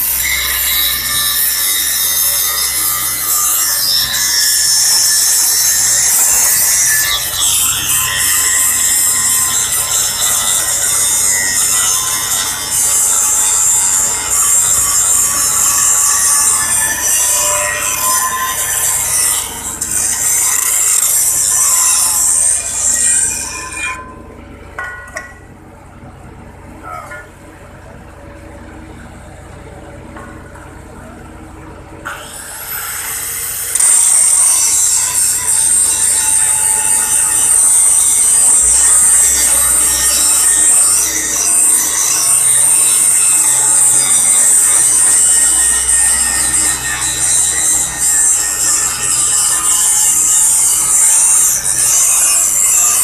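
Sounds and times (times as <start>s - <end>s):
grinder grinding metal: 0.0s - 25.5s, 32.1s - 53.0s
metal-on-metal screech: 0.0s - 25.5s, 32.1s - 53.0s.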